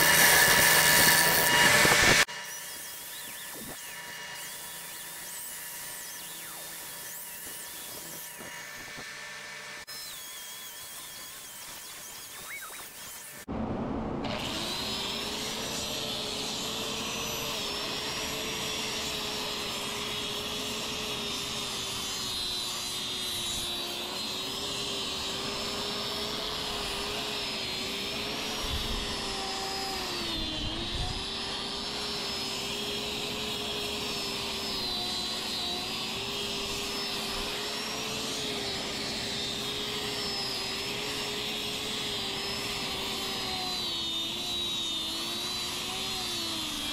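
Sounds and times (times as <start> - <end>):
angle grinder sanding wood: 0.0 - 13.5, 14.4 - 46.9.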